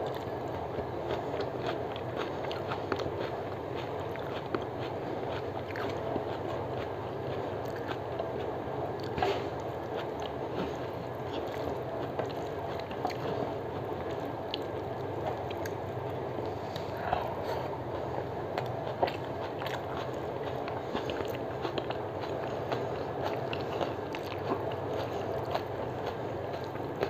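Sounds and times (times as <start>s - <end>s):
chewing with mouth clicks: 0.0s - 27.0s
steady background noise: 0.0s - 27.0s.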